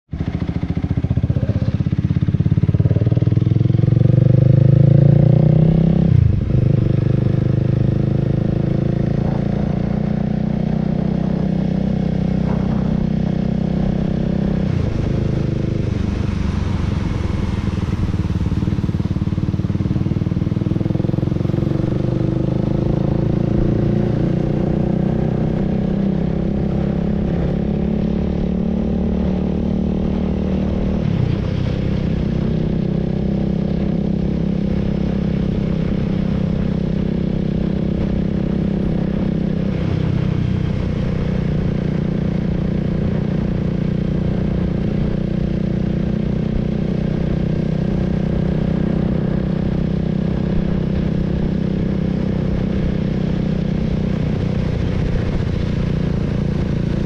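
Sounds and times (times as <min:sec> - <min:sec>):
motorcycle engine under way: 0:00.1 - 0:57.0.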